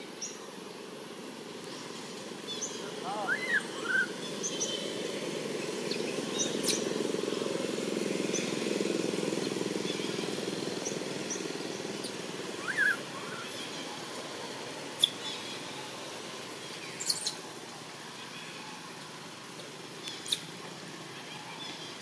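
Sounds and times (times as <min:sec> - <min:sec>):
passing vehicle engine hum: 0:00.8 - 0:22.0.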